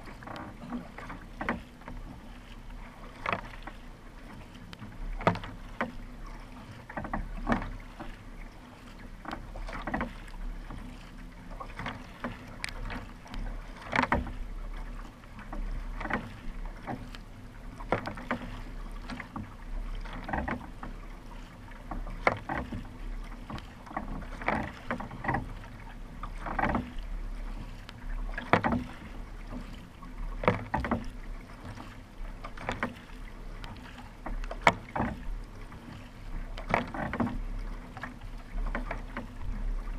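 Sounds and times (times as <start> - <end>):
paddle splashing through water: 0.0 - 39.9
water rushing along hull: 0.0 - 39.9.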